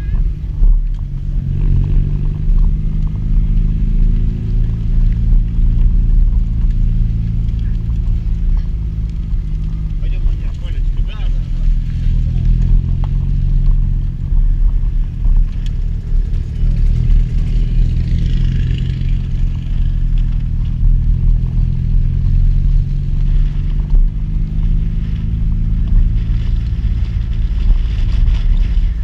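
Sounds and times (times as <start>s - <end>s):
car engine running at low revs: 0.0s - 29.0s.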